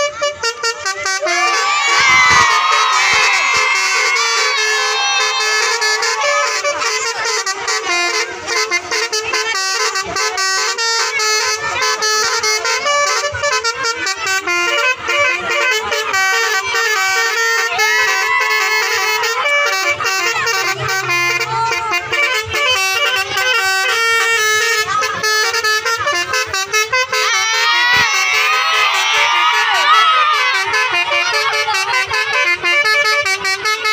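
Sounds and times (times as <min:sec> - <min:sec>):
bus melody horn: 0:00.0 - 0:33.9.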